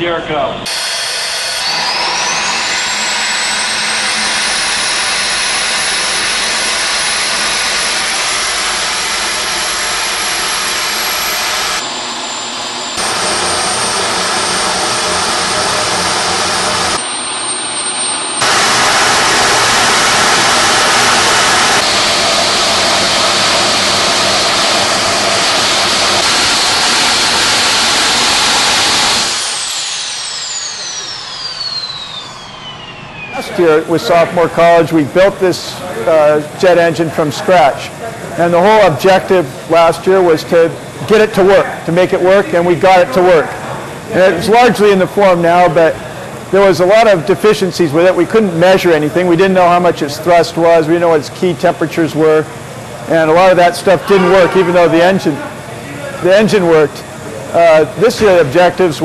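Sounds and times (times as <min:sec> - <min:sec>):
jet engine exhaust roar: 0:00.0 - 0:59.0
piercing turbine whine: 0:00.0 - 0:59.0.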